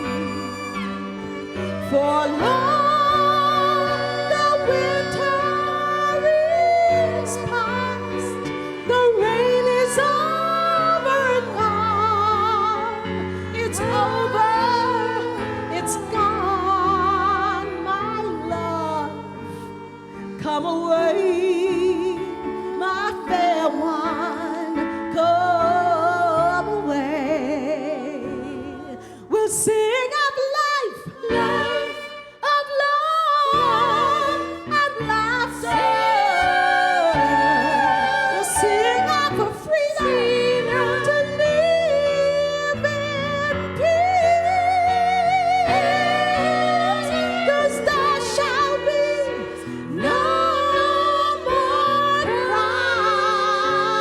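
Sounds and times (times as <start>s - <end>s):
keyboard accompaniment: 0.0s - 29.2s, 33.5s - 54.0s
woman singing gospel: 1.8s - 13.0s, 20.5s - 54.0s.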